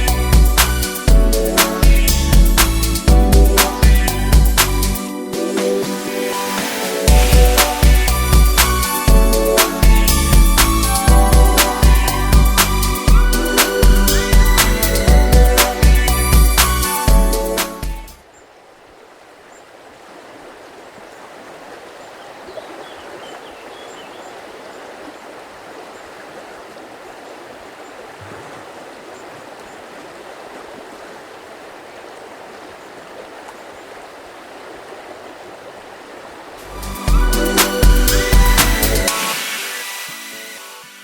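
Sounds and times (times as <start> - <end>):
river water flowing: 0.0 - 41.0.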